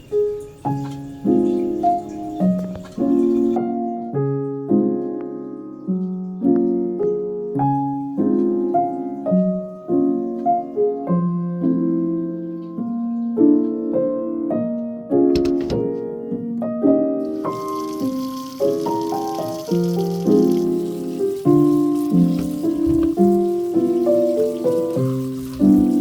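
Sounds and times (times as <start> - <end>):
soft piano chords: 0.0 - 26.0.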